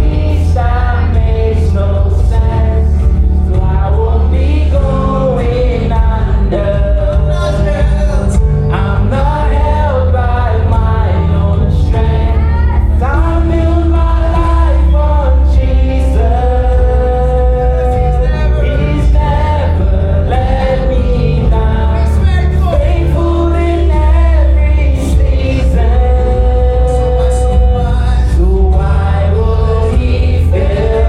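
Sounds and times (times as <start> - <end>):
band with heavy bass line: 0.0 - 31.0
voices singing worship song: 0.0 - 31.0.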